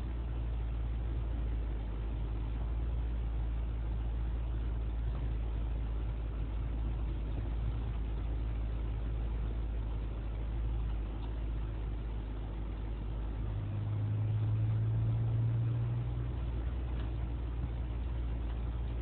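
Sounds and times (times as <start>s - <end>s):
engine and drivetrain rumble: 0.0s - 19.0s.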